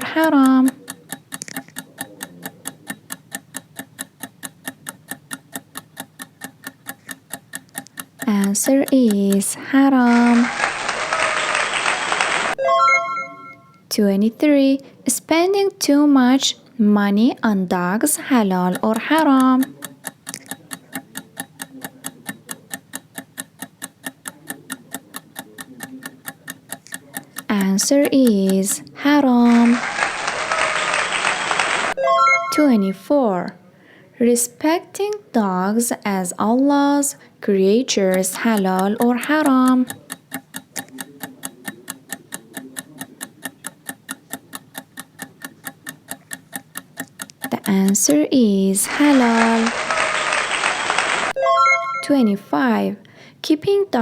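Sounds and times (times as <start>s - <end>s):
fast clock ticking: 0.0s - 12.6s, 13.9s - 33.5s, 34.3s - 51.4s.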